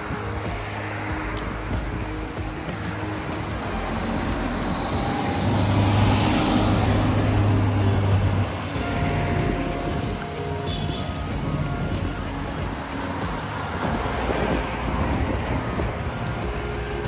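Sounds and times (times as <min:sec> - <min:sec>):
road traffic noise: 0:00.0 - 0:17.0
vehicle passing with tyre hiss: 0:00.0 - 0:17.0.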